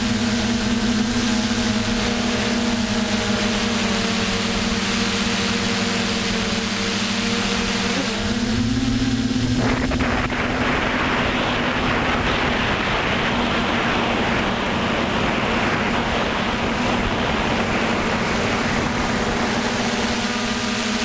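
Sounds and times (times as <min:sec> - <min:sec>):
model aircraft motor humming: 0:00.0 - 0:21.0.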